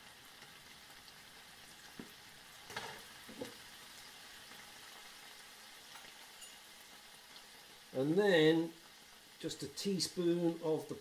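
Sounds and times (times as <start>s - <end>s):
food sizzling in butter: 0.0s - 11.0s.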